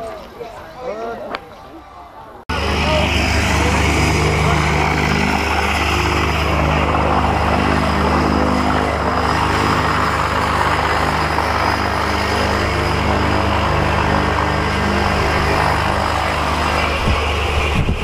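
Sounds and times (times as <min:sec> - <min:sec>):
propeller plane engine drone: 0:02.5 - 0:18.0.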